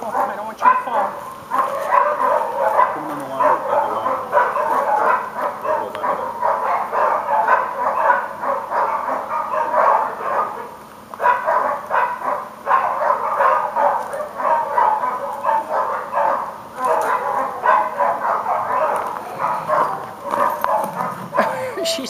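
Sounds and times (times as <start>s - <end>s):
dog barking rapidly: 0.0s - 21.7s.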